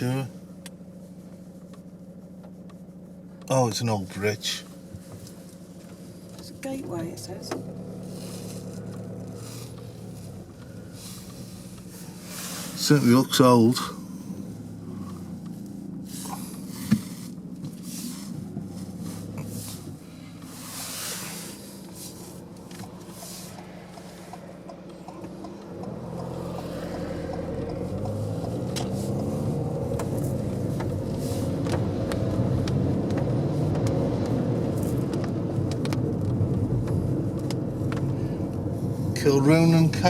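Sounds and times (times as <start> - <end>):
car engine accelerating: 0.0 - 40.0
road noise inside car: 0.0 - 40.0.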